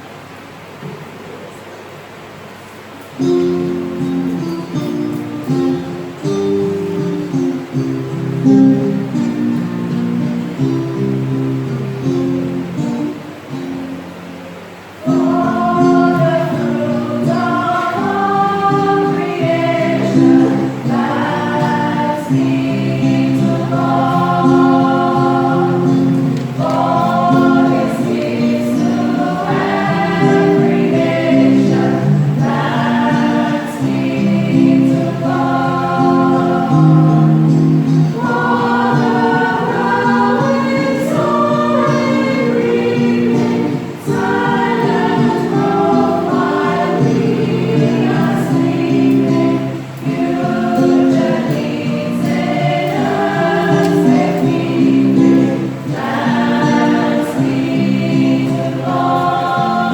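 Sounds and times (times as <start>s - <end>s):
choir singing a hymn: 3.2s - 59.9s.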